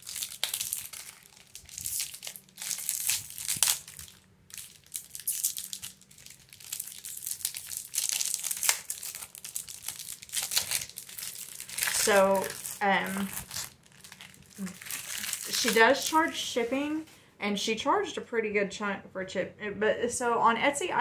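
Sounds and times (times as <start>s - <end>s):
paper crinkling and rustling: 0.0s - 17.1s.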